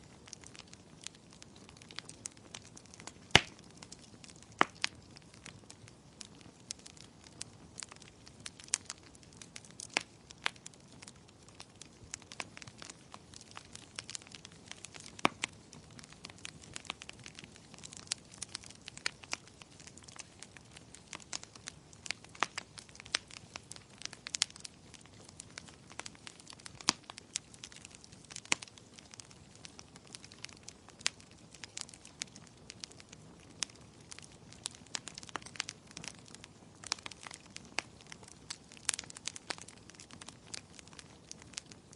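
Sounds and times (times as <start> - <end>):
low hiss of burning: 0.0 - 41.9
wood fire crackling: 0.0 - 41.9.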